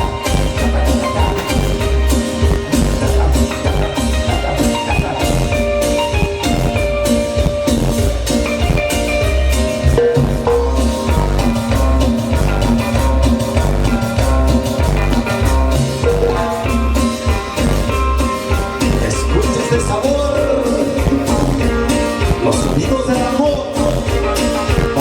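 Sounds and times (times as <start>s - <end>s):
instrumental cumbia music: 0.0s - 25.0s.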